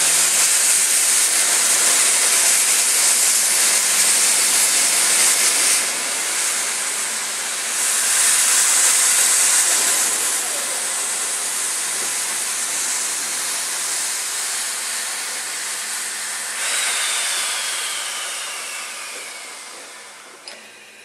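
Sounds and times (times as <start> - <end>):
steam hissing from locomotive: 0.0 - 21.0.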